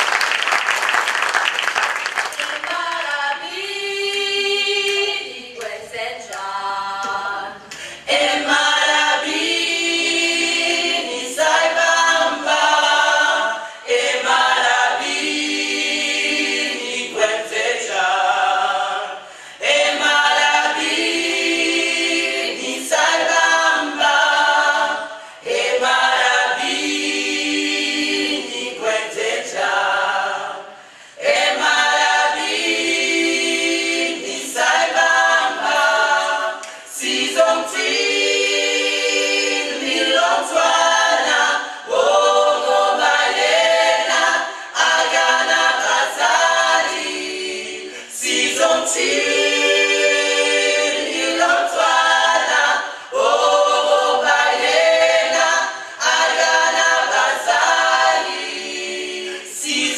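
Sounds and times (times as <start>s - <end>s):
choir singing a cappella: 2.4s - 59.9s.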